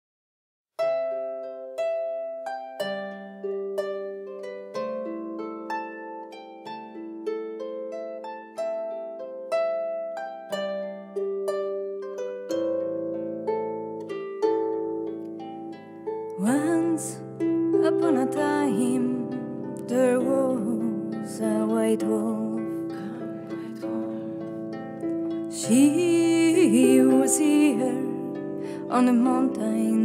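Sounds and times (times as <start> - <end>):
harp playing slow melody: 0.8 - 30.0.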